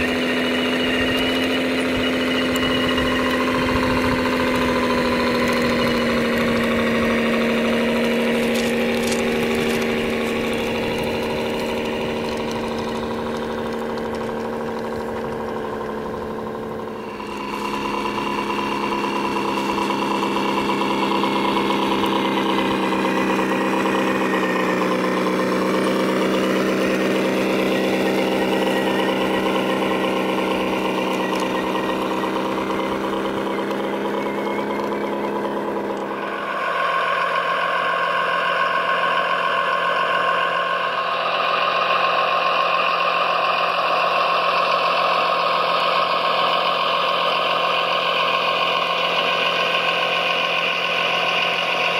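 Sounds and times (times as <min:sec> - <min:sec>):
toy motor droning: 0:00.0 - 0:51.9.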